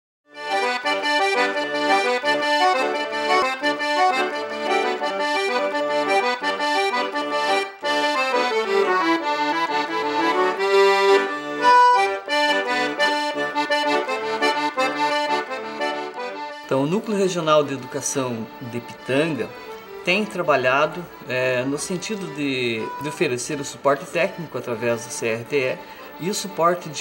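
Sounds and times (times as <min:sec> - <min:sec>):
instrumental background music: 0:00.3 - 0:27.0.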